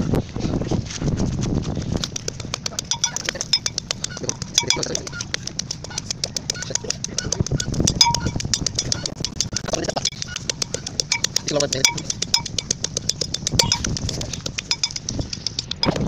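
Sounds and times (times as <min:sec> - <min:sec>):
metal pestle pounding in mortar: 0:02.0 - 0:16.0.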